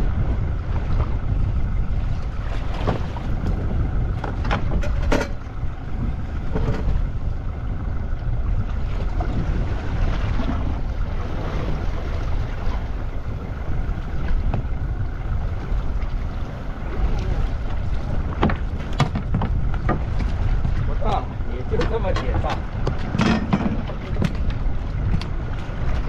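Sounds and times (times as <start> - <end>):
boat engine rumble: 0.0 - 26.0
wind buffeting microphone: 0.0 - 26.0.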